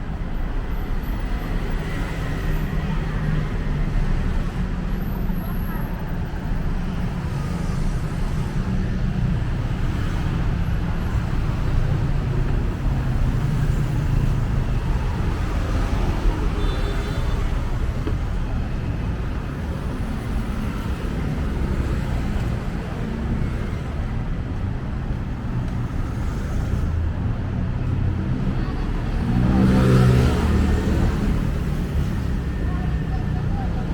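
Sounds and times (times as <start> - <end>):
rumble of passing vehicles: 0.0 - 33.9.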